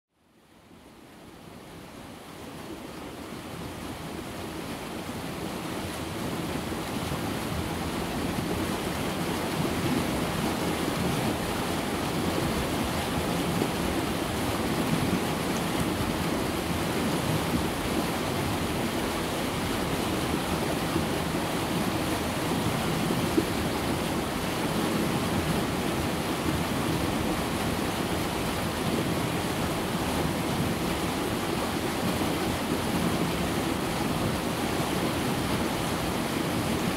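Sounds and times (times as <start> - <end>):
river rushing over rapids: 0.4 - 36.9.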